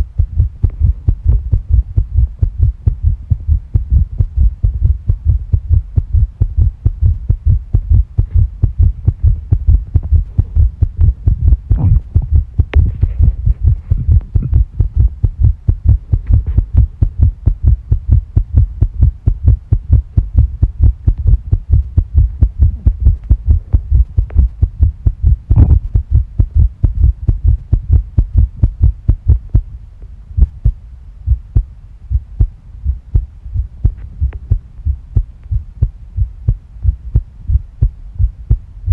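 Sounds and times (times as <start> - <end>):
fast heartbeat thumps: 0.0 - 29.8, 30.4 - 38.9.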